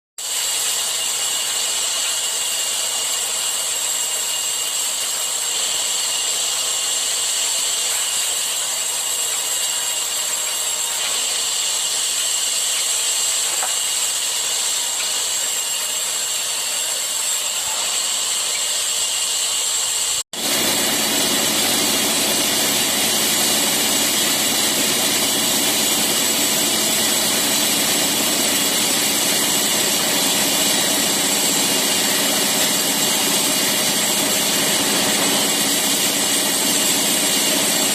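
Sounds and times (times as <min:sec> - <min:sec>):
motorised saw cutting wood: 0:00.2 - 0:37.9.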